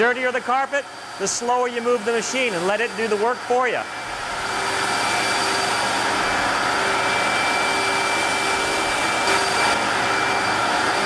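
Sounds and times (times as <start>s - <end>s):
carpet extractor vacuum hum: 0.0s - 11.0s.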